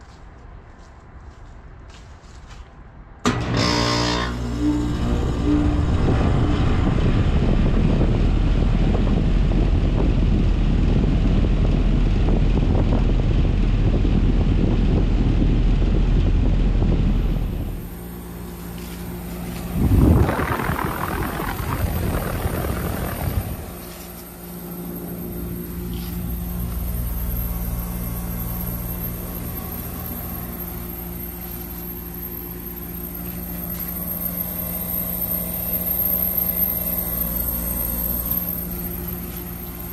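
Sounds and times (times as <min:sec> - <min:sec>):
heat pump fan rushing: 0:03.2 - 0:39.9
low hum: 0:03.2 - 0:39.9.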